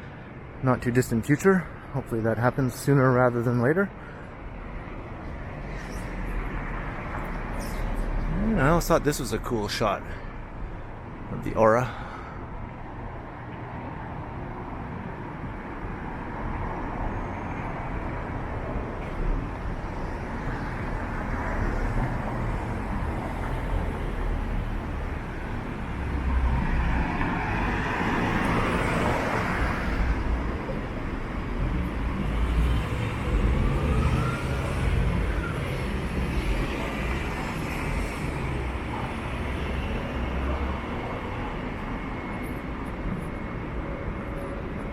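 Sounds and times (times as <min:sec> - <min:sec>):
street traffic rumble: 0:00.0 - 0:44.9.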